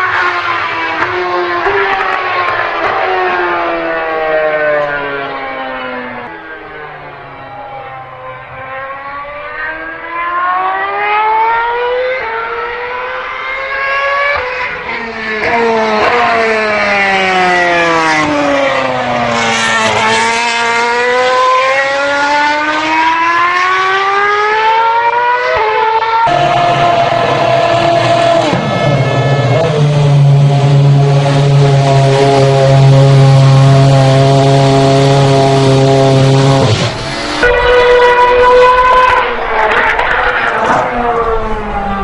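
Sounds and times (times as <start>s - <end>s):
racing car engine revving: 0.0s - 42.0s.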